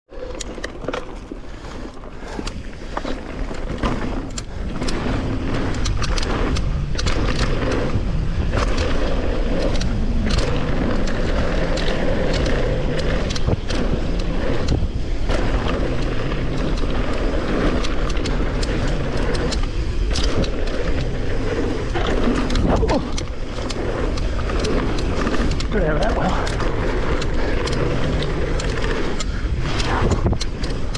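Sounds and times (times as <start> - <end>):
bike clicks and rattles: 0.1 - 30.9
bike tyre noise: 0.1 - 30.9
wind rumble on microphone: 0.1 - 30.9.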